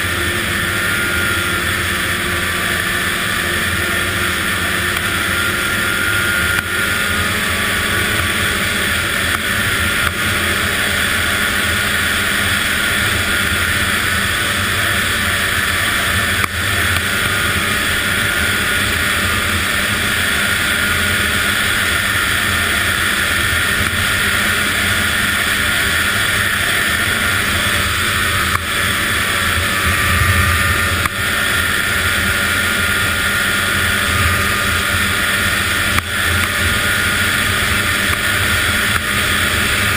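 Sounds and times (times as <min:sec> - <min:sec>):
snowmobile two-stroke engine running: 0:00.0 - 0:39.9.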